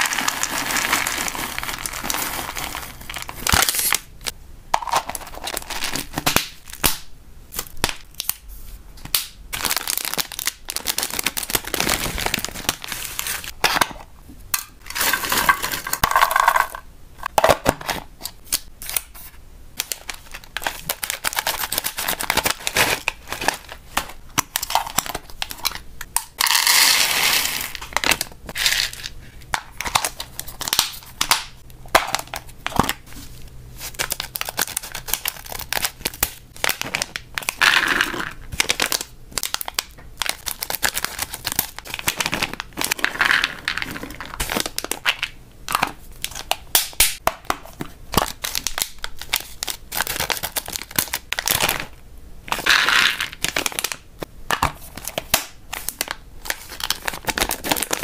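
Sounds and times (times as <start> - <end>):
plastic snack bags crinkling: 0.0 - 6.9, 9.5 - 13.8, 19.8 - 31.4, 32.0 - 54.1, 54.7 - 58.0.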